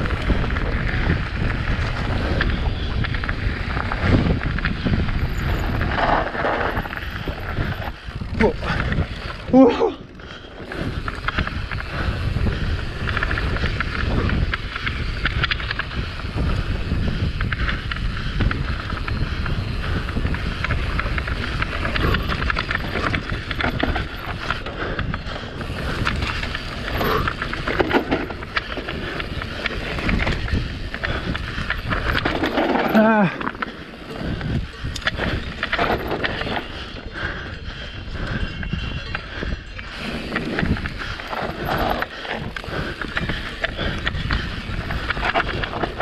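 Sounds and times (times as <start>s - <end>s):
bike rattling over bumps: 0.0s - 46.0s
tyres rolling on dirt: 0.0s - 46.0s
wind on microphone: 0.0s - 46.0s.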